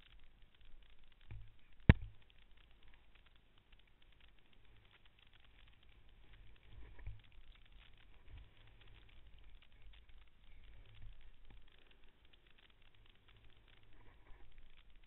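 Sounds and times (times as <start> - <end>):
snow crackling under sliding: 0.0 - 15.0.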